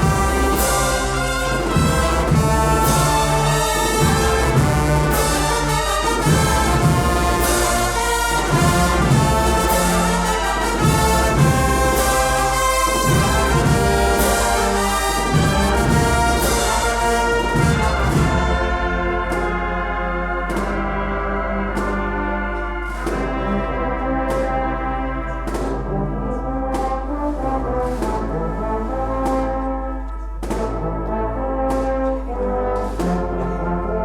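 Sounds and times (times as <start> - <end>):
steady drumbeat: 0.0 - 33.7
brass band playing a march: 0.0 - 34.0.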